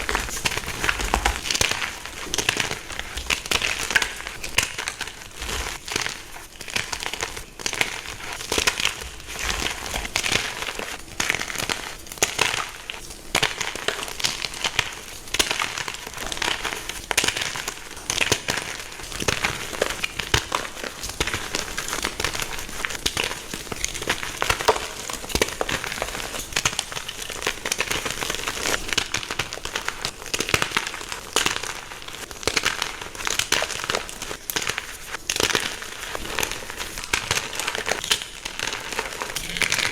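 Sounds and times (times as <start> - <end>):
chalk crunching and crackling: 0.0 - 39.9.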